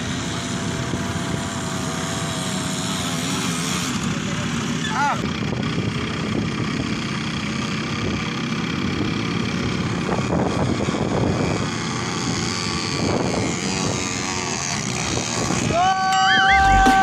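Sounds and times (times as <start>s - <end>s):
quad bike engines running hard: 0.0s - 17.0s.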